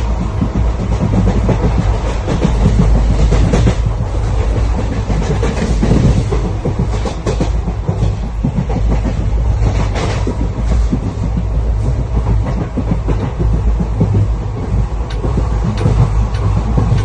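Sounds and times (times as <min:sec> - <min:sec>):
train rumbling on rails: 0:00.0 - 0:17.0
wheels clacking over rail joints: 0:00.0 - 0:17.0.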